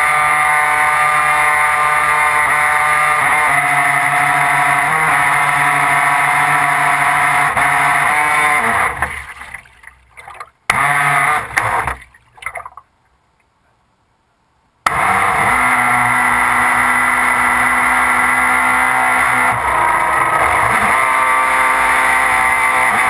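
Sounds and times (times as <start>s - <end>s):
electric boat motor whining: 0.0s - 9.2s, 10.7s - 12.0s, 14.9s - 23.0s.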